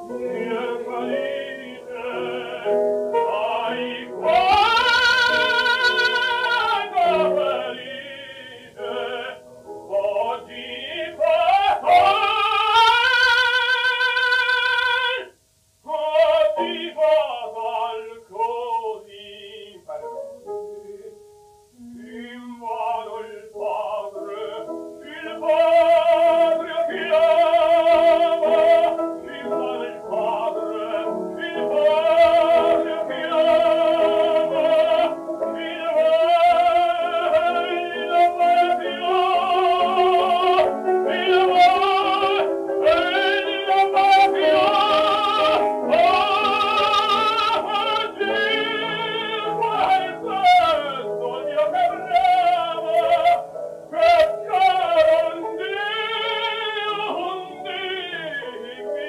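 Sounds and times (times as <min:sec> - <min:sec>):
man singing opera: 0:00.0 - 0:21.2, 0:21.8 - 0:59.0
musical accompaniment: 0:00.0 - 0:59.0.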